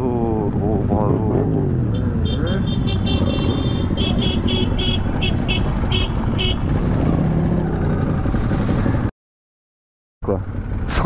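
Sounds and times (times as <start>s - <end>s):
motorcycle running at low speed: 0.0s - 9.1s, 10.2s - 11.0s
road rumble: 0.0s - 9.1s, 10.2s - 11.0s
wind: 0.0s - 9.1s, 10.2s - 11.0s.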